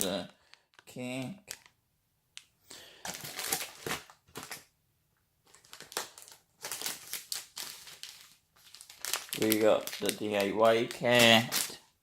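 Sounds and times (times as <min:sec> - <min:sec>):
plastic wrappers crinkling: 0:00.0 - 0:01.8, 0:02.9 - 0:04.7, 0:05.4 - 0:11.9.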